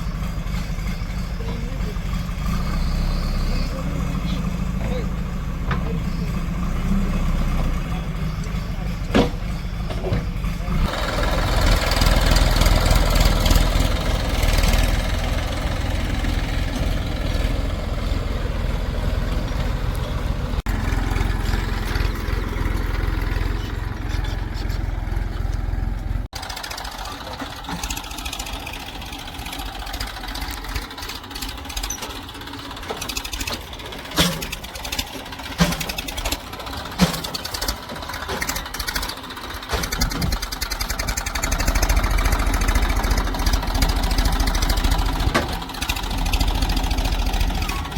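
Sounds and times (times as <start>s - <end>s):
diesel machinery engine running: 0.0s - 47.9s.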